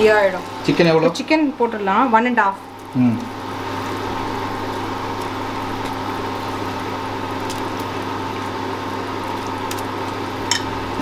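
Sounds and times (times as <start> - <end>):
low steady hum: 0.0 - 11.0
water boiling in a pot: 0.0 - 11.0.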